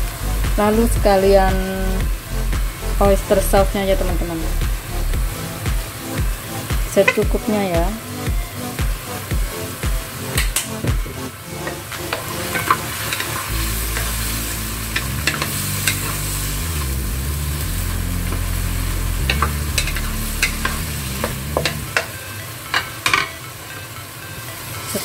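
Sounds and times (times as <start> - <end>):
low hum: 0.0 - 22.0
vegetables sizzling in oil: 0.1 - 25.0.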